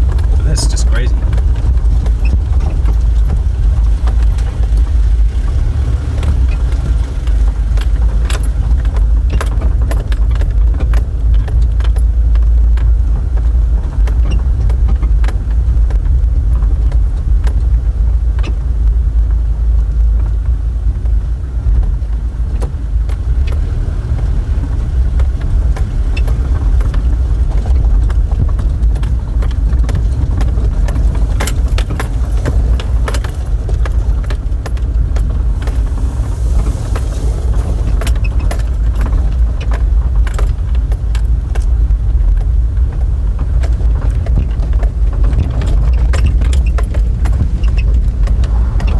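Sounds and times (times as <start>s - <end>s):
engine and tyres rumbling: 0.0s - 48.9s.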